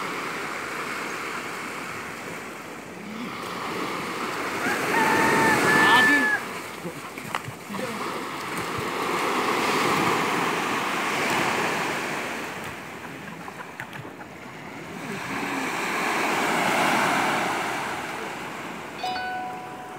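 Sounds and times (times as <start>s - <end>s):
small waves breaking on sand: 0.0s - 19.1s.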